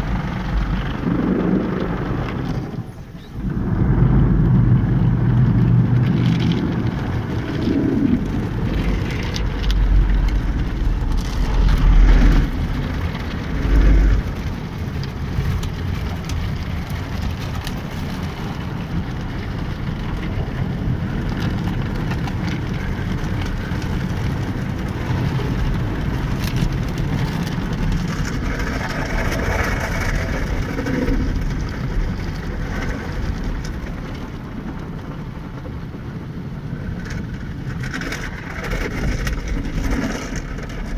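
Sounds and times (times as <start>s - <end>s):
water spraying on car: 0.0s - 37.7s
heavy low rumbles: 0.0s - 40.9s.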